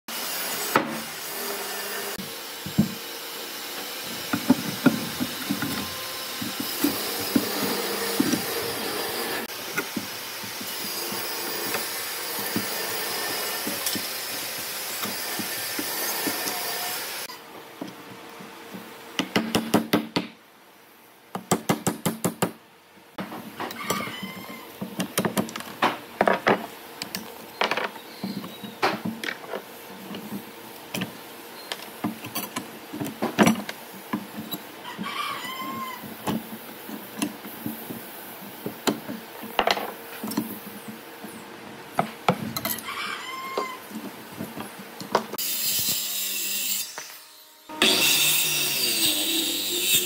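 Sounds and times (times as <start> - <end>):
steady workshop noise: 0.1 - 50.0.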